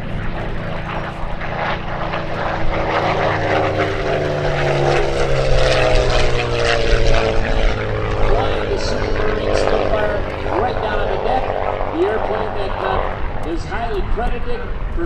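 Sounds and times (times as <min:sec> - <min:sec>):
low rumble: 0:00.0 - 0:15.0
propeller aircraft flying past: 0:00.0 - 0:15.0.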